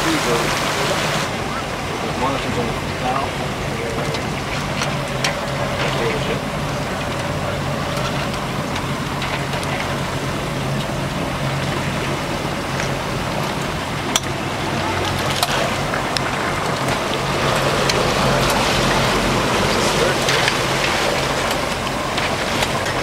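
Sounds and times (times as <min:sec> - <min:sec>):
motorboat engine humming: 0:00.0 - 0:23.0
water noise: 0:00.0 - 0:23.0
wind: 0:00.0 - 0:23.0.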